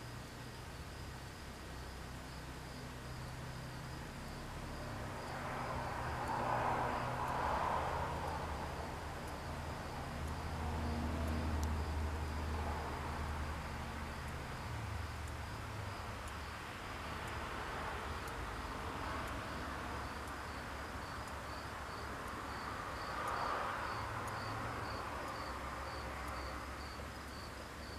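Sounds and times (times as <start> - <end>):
cricket chirping: 0.0 - 27.9.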